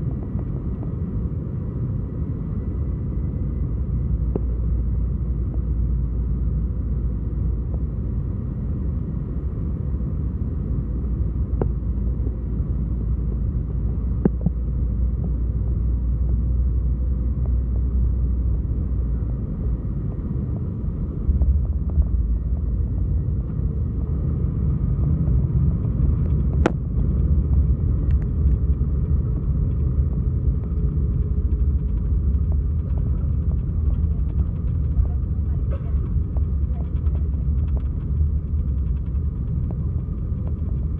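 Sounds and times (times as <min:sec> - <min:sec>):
jet engine and airflow rumble: 0:00.0 - 0:40.9.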